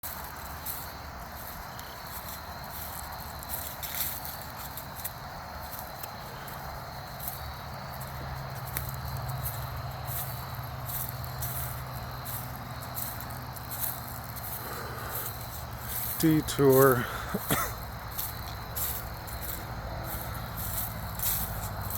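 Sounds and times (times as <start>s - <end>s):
footsteps crunching on a path: 0.0s - 21.9s.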